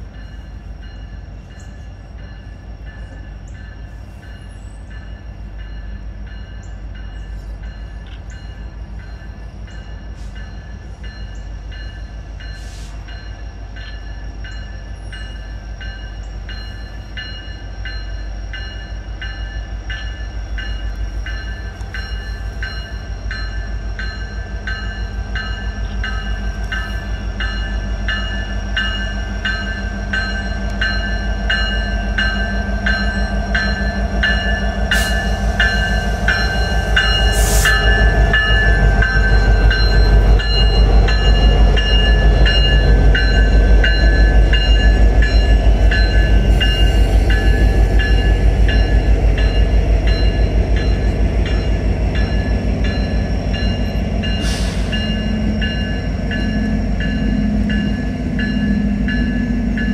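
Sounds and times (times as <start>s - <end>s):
high ringing tones: 0.0s - 59.9s
train rumble: 0.0s - 59.9s
train wheels clicking on rails: 0.0s - 59.9s.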